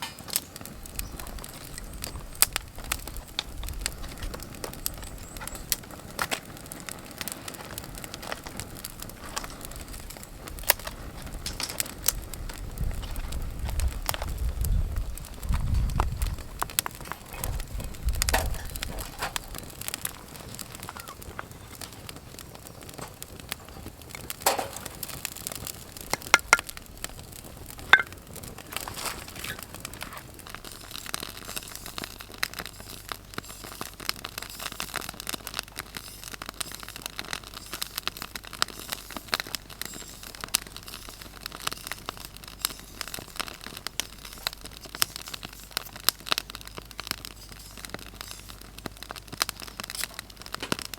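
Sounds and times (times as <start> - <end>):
sharp fire pops: 0.0 - 50.9
wood fire crackling: 0.0 - 50.9.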